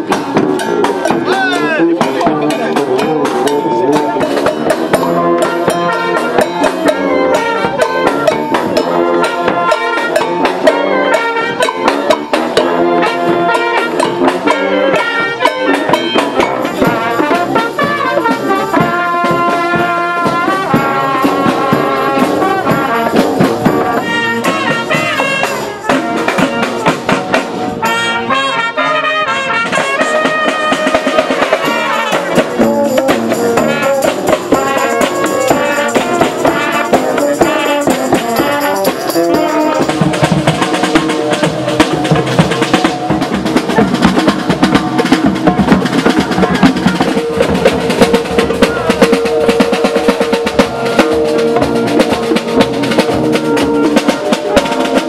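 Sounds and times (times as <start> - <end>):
bass drum and snare drum: 0.0 - 28.0, 28.6 - 55.0
brass band playing: 0.0 - 55.0.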